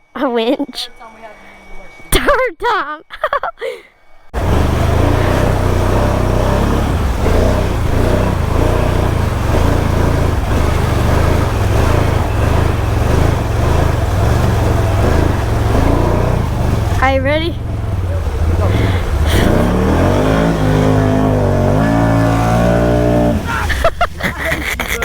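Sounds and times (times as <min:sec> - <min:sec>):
atv engine running loud: 0:04.4 - 0:24.5.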